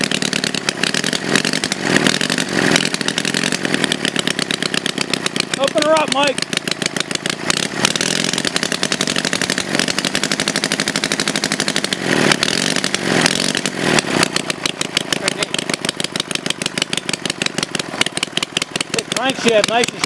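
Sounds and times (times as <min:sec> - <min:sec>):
twin-cylinder engine revving: 0:00.0 - 0:20.0.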